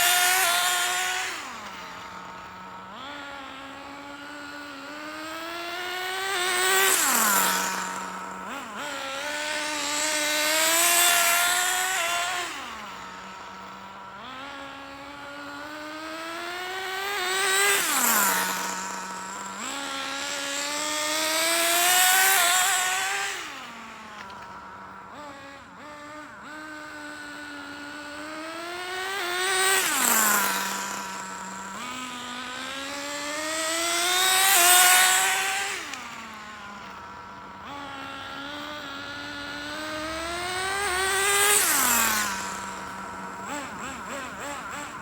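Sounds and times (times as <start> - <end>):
rc car engine passing by: 0.0 - 45.0.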